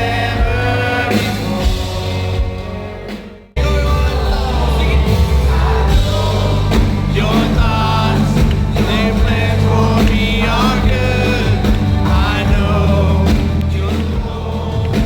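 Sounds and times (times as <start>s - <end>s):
drums: 0.0s - 15.0s
people singing: 0.0s - 15.0s
rock band playing: 0.0s - 15.0s.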